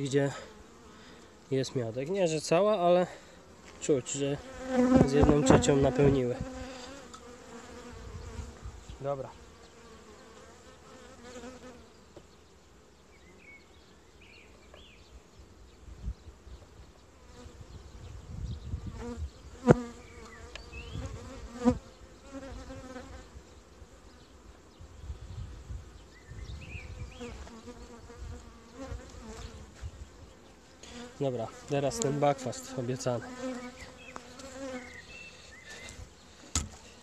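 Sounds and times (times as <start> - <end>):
bees buzzing: 0.0 - 15.8, 16.8 - 37.0.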